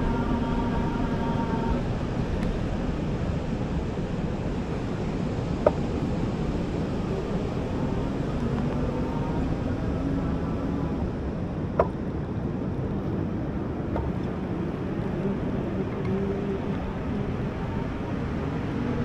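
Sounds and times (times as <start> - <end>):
faint humming tones: 0.0 - 19.0.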